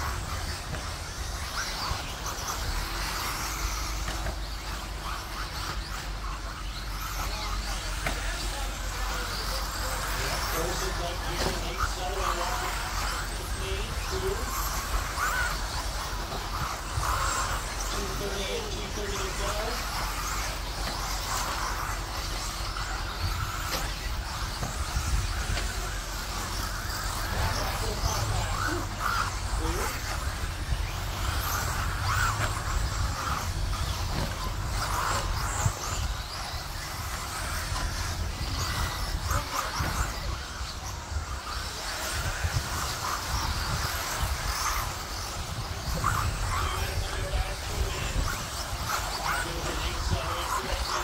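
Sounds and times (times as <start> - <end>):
toy car motors whining: 0.0 - 51.0.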